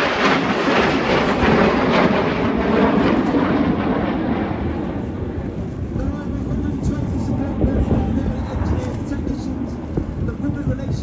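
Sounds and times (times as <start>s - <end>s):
jet aircraft passing overhead: 0.0s - 11.0s.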